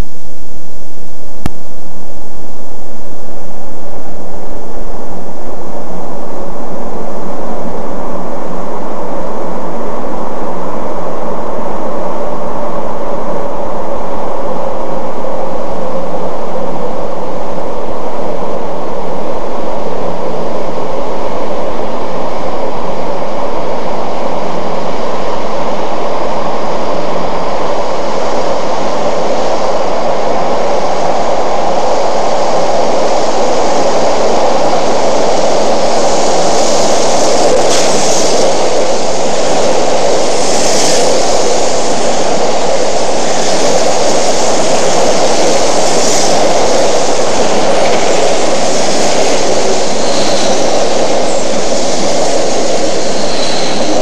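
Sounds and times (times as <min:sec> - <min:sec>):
high-speed train rumble: 0:03.9 - 0:54.0.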